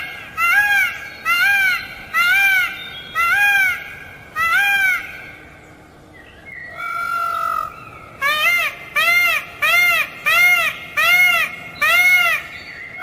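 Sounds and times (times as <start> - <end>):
peafowl calling: 0.0 - 5.5, 6.7 - 13.0.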